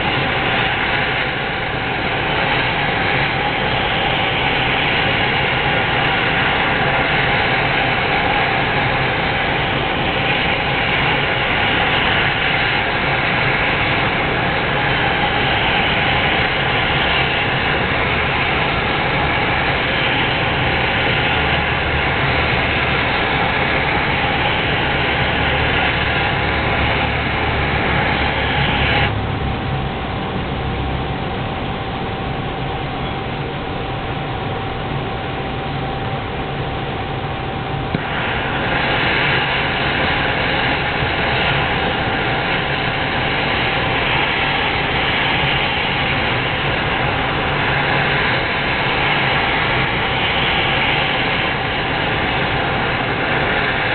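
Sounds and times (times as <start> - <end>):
gas burner rushing: 0.0 - 53.9.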